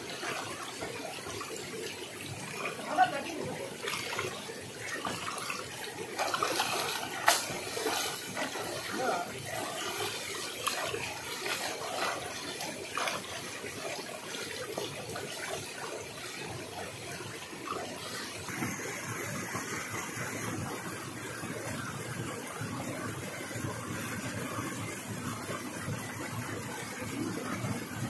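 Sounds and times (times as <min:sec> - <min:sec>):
water splashing and churning: 0:00.0 - 0:28.0.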